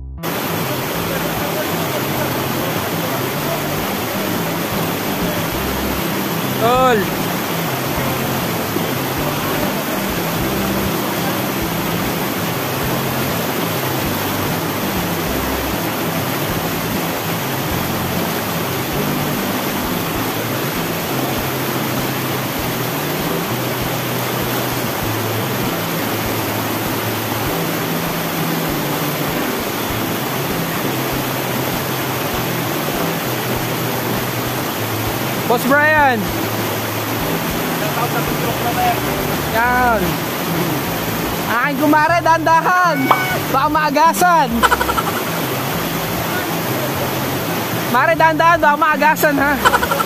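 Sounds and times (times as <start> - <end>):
river rapids rushing: 0.2 - 50.0.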